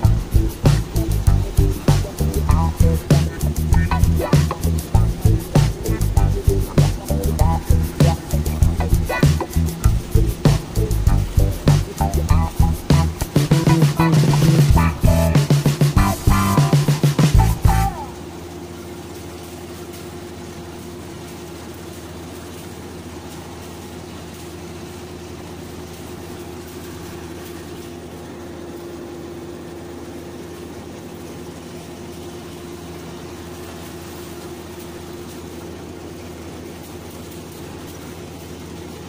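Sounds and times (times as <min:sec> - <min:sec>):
engine running steadily: 0:00.0 - 0:39.0.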